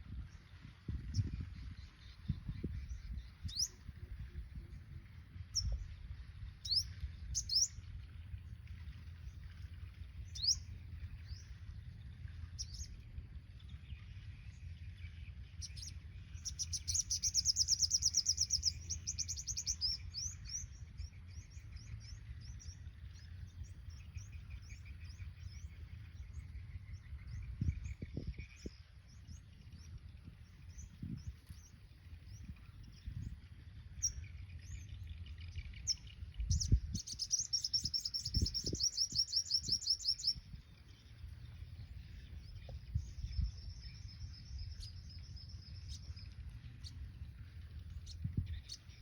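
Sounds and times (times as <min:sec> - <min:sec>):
steady low rumble: 0:00.0 - 0:49.0
birds chirping and trilling: 0:01.1 - 0:49.0.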